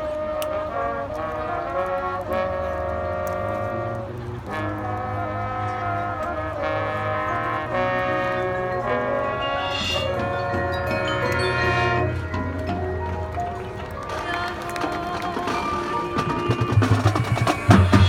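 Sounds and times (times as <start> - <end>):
low brass: 0.0 - 18.0
marching band brass chords: 0.0 - 18.0.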